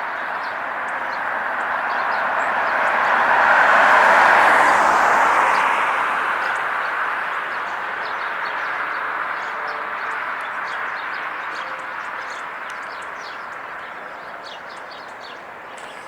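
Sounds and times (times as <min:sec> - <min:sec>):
songbirds chirping: 0:00.0 - 0:16.0
vehicle passing: 0:00.8 - 0:14.0.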